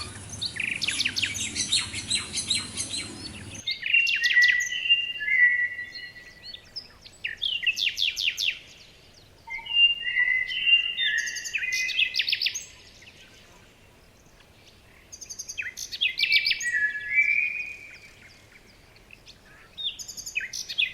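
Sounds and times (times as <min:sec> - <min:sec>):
songbird singing trills: 0:00.0 - 0:20.9.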